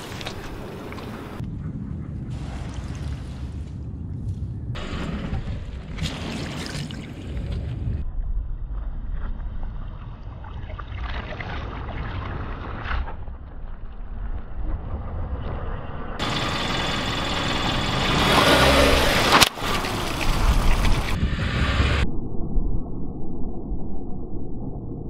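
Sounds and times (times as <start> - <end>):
low rumble: 0.6 - 6.0, 6.8 - 25.0.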